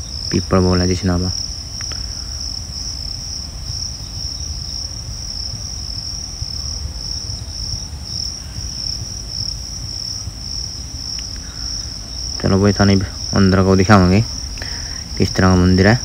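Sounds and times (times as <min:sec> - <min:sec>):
low rumble: 0:00.0 - 0:16.0
shrill insect chorus: 0:00.0 - 0:16.0.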